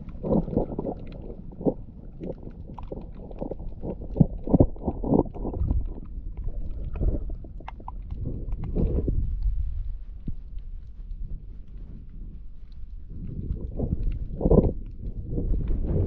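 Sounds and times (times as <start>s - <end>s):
muffled water sloshing and bubbling: 0.0s - 16.0s.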